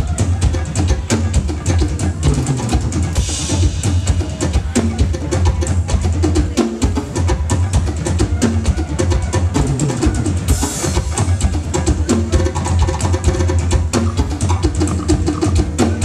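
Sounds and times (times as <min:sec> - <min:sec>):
drum kit: 0:00.0 - 0:16.0
hand drums: 0:00.0 - 0:16.0.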